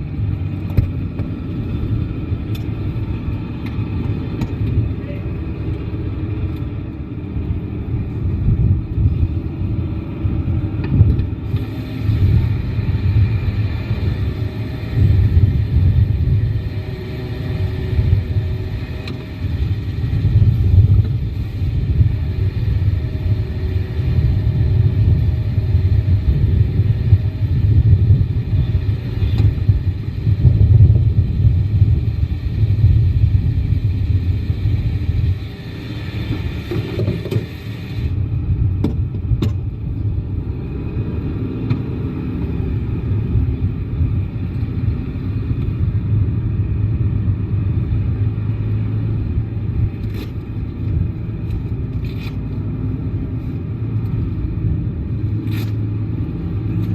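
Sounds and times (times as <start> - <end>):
motorcycle engine running: 0.0 - 56.9
wind buffeting microphone: 0.0 - 56.9.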